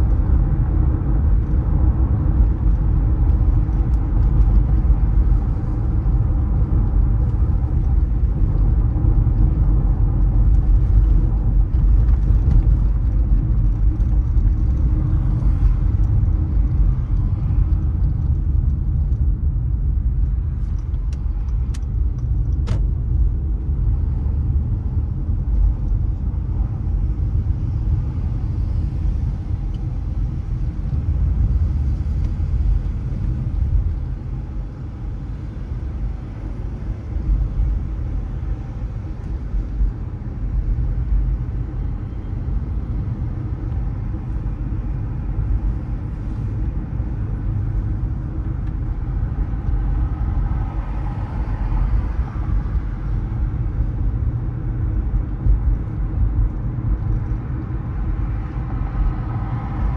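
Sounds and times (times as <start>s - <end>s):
car driving road rumble: 0.0s - 59.9s.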